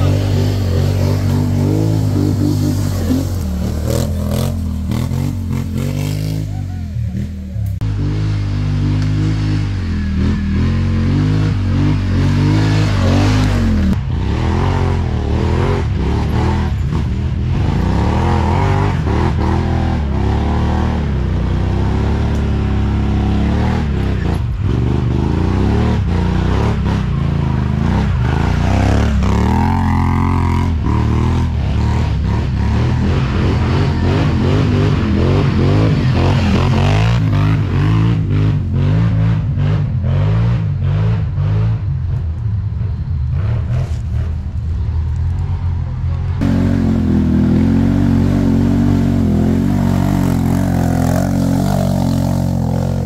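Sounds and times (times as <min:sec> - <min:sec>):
atv engine revving: 0:00.0 - 0:42.4, 0:46.2 - 0:53.0.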